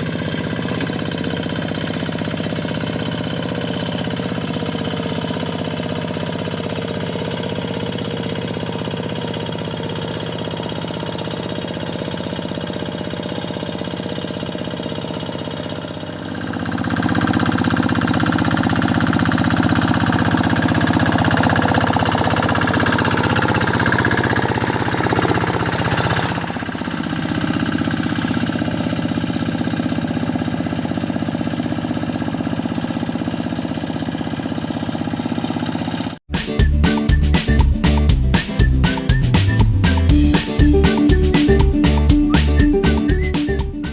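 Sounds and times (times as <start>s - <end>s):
tractor diesel engine knocking: 0.0s - 43.9s.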